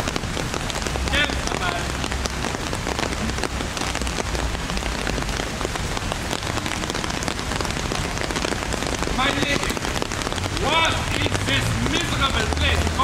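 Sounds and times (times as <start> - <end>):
heavy rain hissing: 0.0 - 13.0
sharp raindrop hits: 0.0 - 13.0.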